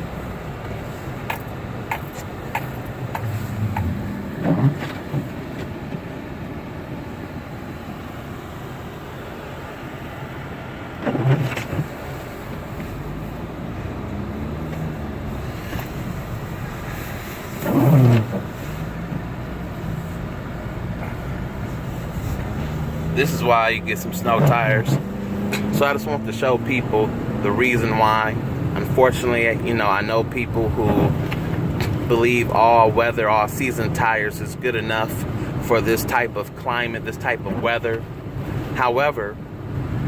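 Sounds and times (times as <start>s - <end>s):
in-cabin road and engine noise: 0.0s - 40.0s.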